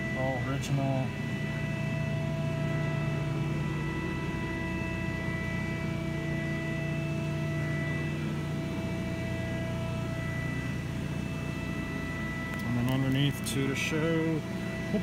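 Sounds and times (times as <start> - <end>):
hydraulic system hum: 0.0 - 15.0.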